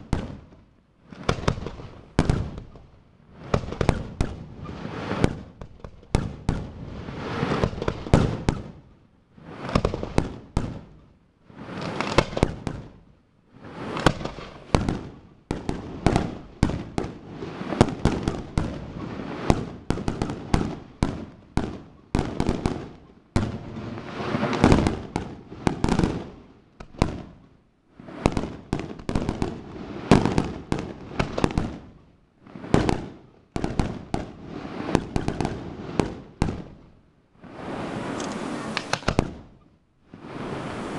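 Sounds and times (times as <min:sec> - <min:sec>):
fireworks bursting with sharp bangs: 0:00.0 - 0:40.9.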